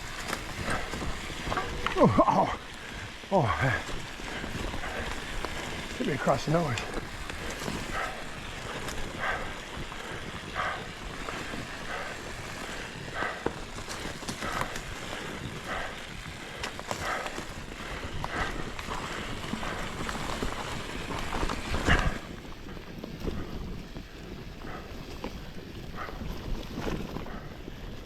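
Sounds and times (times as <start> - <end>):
mountain bike tyres on dirt: 0.0 - 28.0
rider breathing heavily: 0.0 - 28.0.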